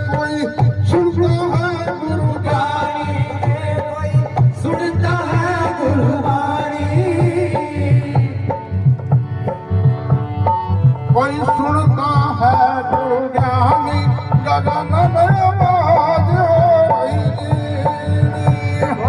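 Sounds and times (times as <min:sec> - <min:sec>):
devotional melody: 0:00.0 - 0:19.0
hand drum rhythm: 0:00.0 - 0:19.0.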